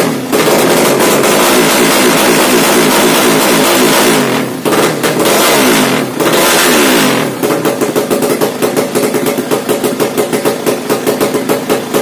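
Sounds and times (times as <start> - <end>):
engine lumpy idle: 0.0 - 12.0
motorcycle engine revving: 0.0 - 12.0.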